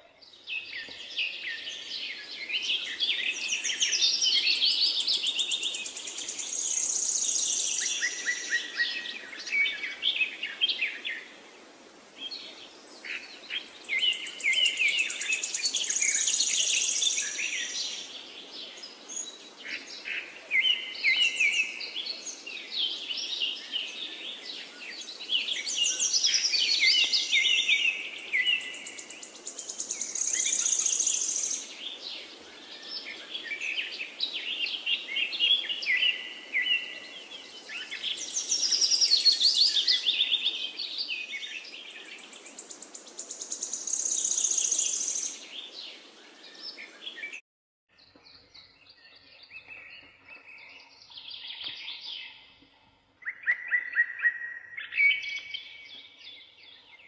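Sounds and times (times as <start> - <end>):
songbird chirping and trilling: 0.0 - 11.4, 12.2 - 57.0.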